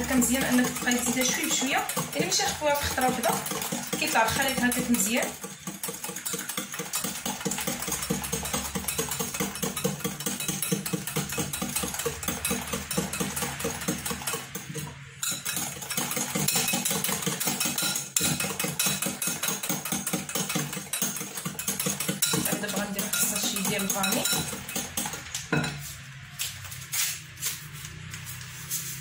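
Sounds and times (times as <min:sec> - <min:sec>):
wire whisk beating in glass bowl: 0:00.0 - 0:25.8.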